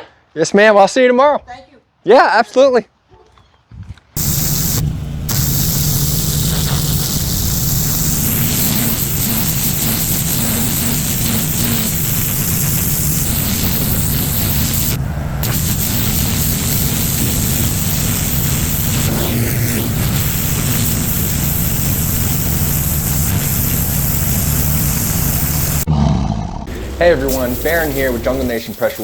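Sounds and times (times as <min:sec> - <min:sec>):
high-pressure water spray hissing: 0:04.2 - 0:25.9, 0:26.7 - 0:29.0
pressure washer engine running: 0:04.2 - 0:25.9, 0:26.7 - 0:29.0.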